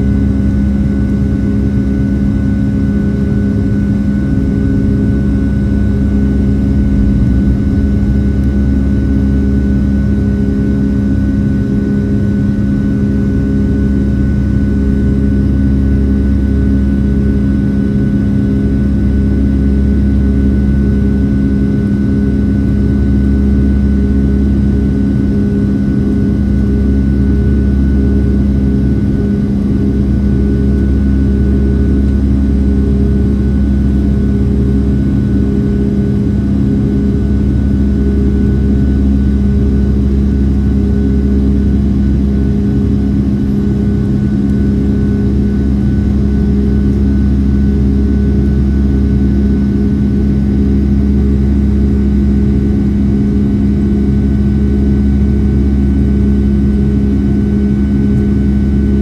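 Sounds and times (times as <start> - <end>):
faint steady whine: 0.0 - 59.0
jet engines droning: 0.0 - 59.0.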